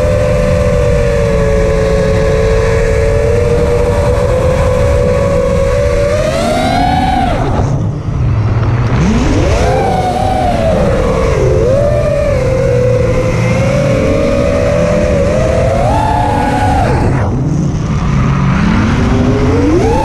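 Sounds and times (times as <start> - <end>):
drone propellers whining: 0.0 - 20.0
wind rush: 0.0 - 20.0.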